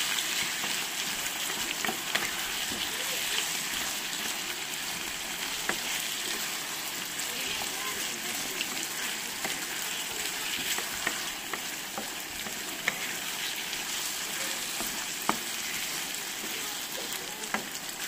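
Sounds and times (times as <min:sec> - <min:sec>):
food sizzling in a frying pan: 0:00.0 - 0:18.0
wooden spatula stirring: 0:00.0 - 0:18.0.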